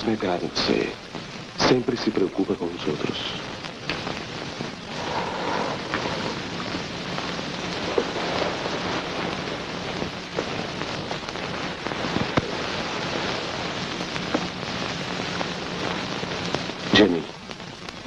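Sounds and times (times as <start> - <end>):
rain-like hiss: 0.0 - 18.0
small clicks and crackles: 0.4 - 18.0.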